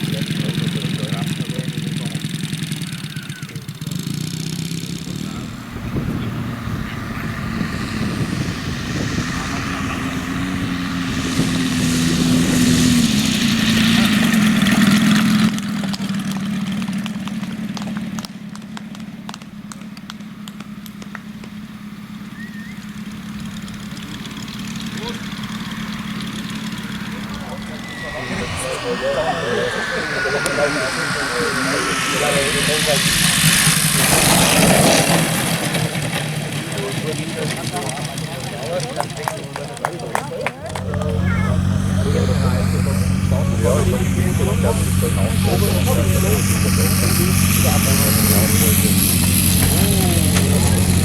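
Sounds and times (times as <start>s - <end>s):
model airplane engine running: 0.0s - 51.0s.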